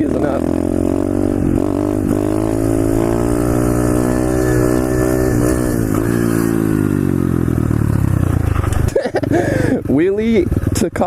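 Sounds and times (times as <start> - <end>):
motorbike engine under throttle: 0.0 - 11.0.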